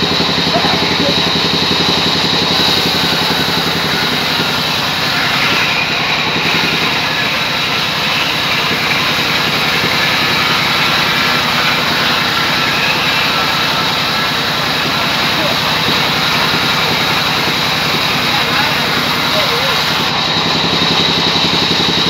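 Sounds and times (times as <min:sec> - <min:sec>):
band saw blade whining in wood: 0:00.0 - 0:22.0
low pulsing machinery drone: 0:00.0 - 0:22.0.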